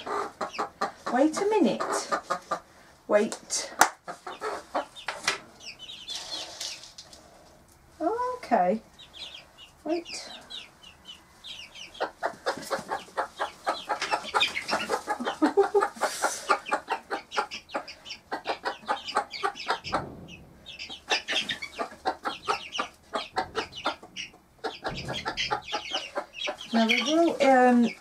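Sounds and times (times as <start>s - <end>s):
hen clucking: 0.0s - 7.0s, 8.9s - 28.0s
chicks peeping: 0.0s - 7.5s, 8.2s - 28.0s.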